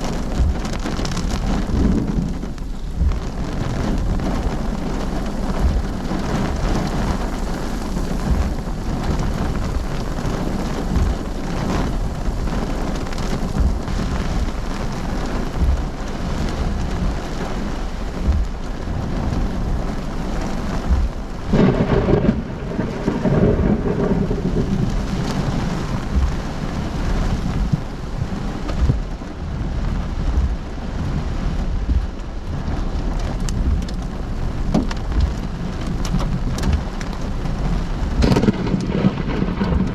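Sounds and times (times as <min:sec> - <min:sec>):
heavy rain pouring: 0:00.0 - 0:39.9
loud thunder rumble: 0:00.0 - 0:39.9.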